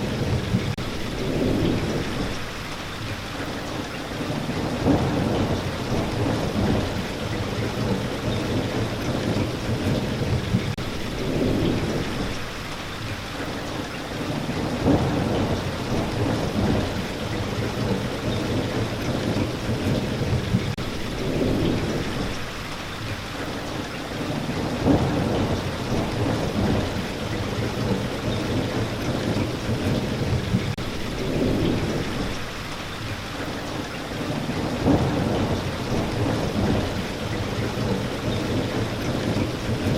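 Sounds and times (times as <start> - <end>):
thunder rumbling: 0.0 - 2.8, 4.1 - 12.7, 14.2 - 22.8, 24.2 - 33.2, 34.1 - 39.9
steady rain: 0.0 - 39.9.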